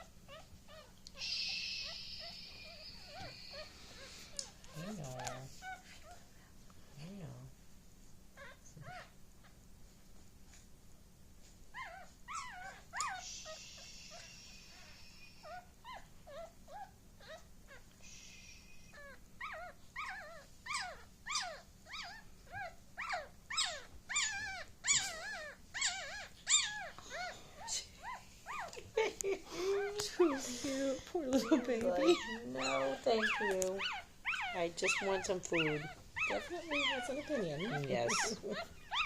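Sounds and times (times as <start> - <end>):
puppy squealing and crying: 0.0 - 6.2, 8.3 - 9.6, 11.7 - 39.0.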